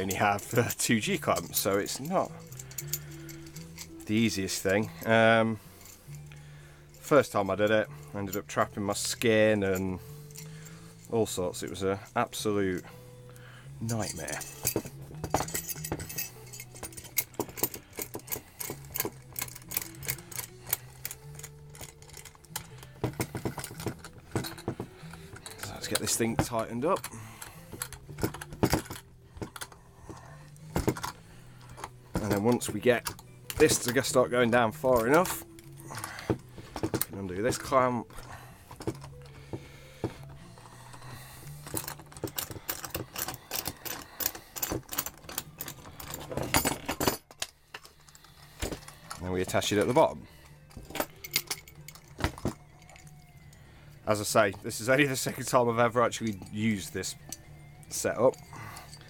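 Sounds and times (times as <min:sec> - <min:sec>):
metal clamp clicking and rattling: 0:00.0 - 0:59.0.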